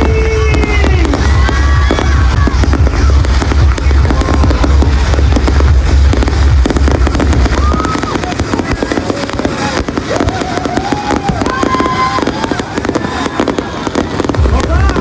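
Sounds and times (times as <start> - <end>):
fireworks bangs and crackles: 0.0 - 15.0
heavy low rumble: 0.0 - 15.0.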